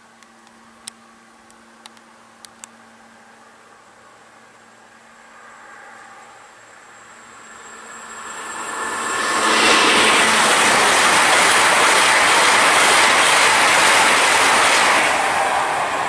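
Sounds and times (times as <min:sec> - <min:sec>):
train passing at speed: 0:02.9 - 0:16.0.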